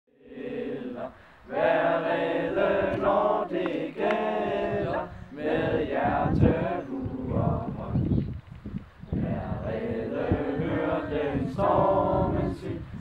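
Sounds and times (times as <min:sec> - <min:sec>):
group singing: 0:00.1 - 0:08.2, 0:09.1 - 0:13.0.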